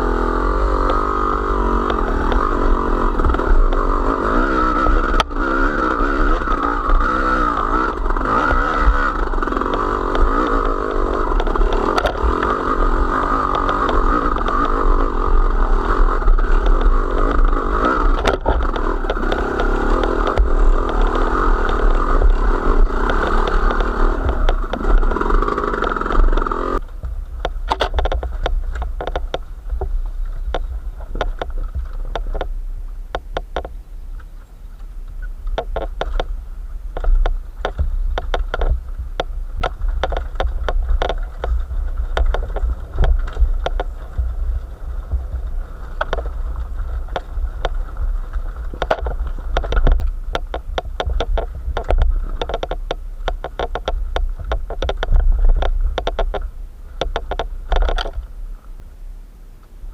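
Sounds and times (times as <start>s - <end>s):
motorcycle engine running: 0.0s - 58.9s
clicks and clatter: 1.8s - 32.5s, 33.1s - 36.4s, 37.0s - 58.3s.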